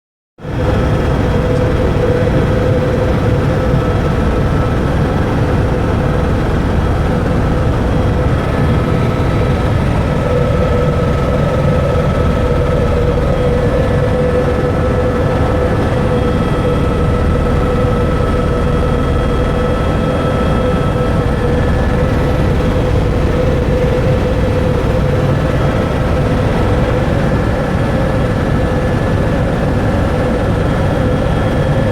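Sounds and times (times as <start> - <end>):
constant whine: 0.4 - 31.9
helicopter cabin drone: 0.4 - 31.9.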